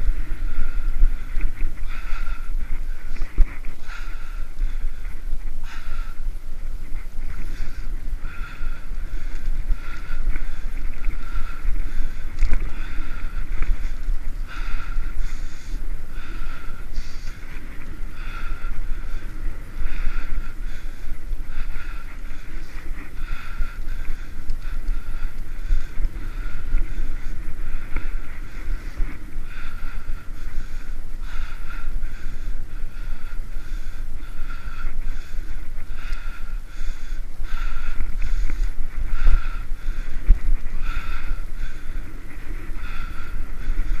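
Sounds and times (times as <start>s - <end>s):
bicycle tyres on asphalt: 0.0s - 44.0s
wind buffeting microphone: 0.0s - 44.0s.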